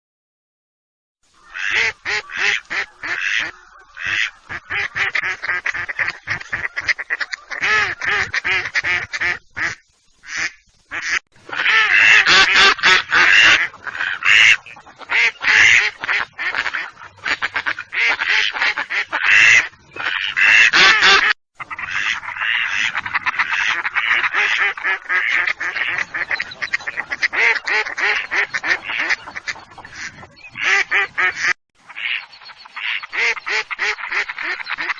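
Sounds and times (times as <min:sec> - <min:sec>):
duck quacking loudly: 0:01.5 - 0:34.9.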